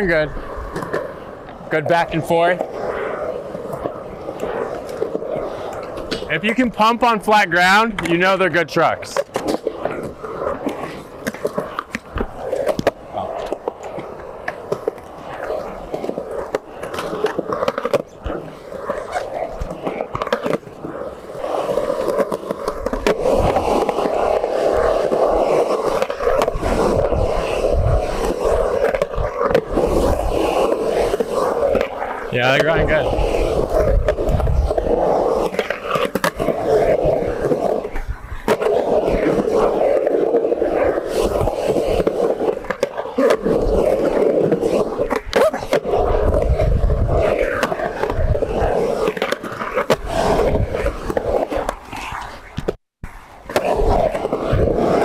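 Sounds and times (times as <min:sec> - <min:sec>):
skateboard wheels rolling: 0:00.0 - 0:55.0.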